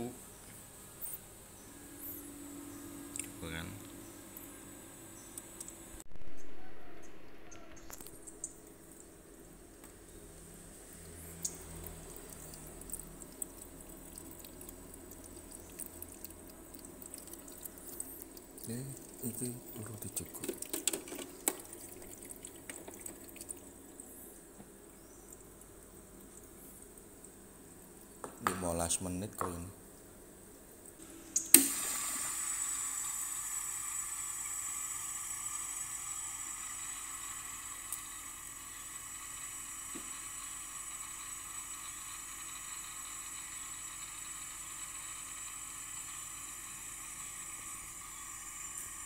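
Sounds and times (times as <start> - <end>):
ice maker humming: 0.0 - 6.0, 8.0 - 49.0.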